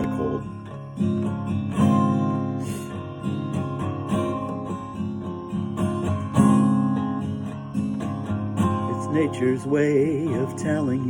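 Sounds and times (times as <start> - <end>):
acoustic guitar chords ringing: 0.0 - 11.0.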